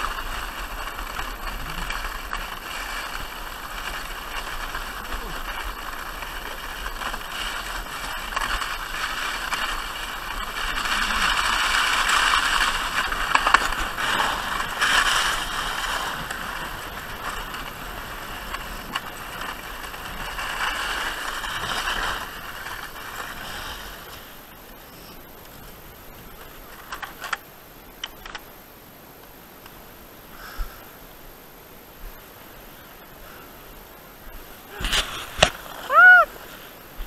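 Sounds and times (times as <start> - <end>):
sledge sliding over packed snow: 0.0 - 27.4, 29.8 - 37.0.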